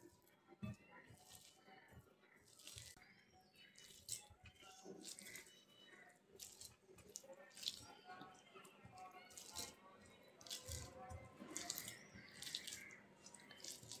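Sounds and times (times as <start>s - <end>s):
hand squishing and crunching onion: 1.0s - 14.0s.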